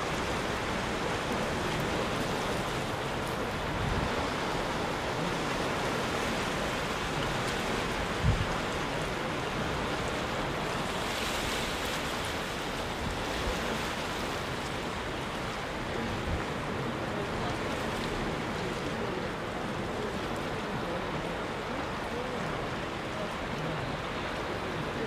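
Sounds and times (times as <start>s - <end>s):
sea surf breaking over rocks: 0.0s - 25.0s.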